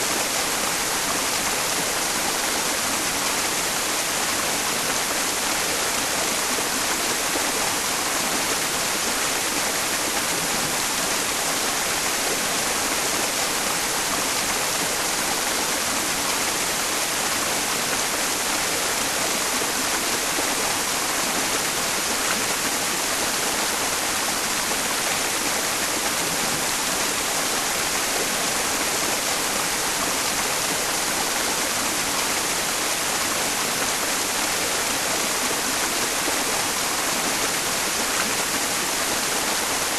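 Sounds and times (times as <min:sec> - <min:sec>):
steady white noise hiss: 0:00.0 - 0:39.9
stream flowing: 0:00.0 - 0:39.9.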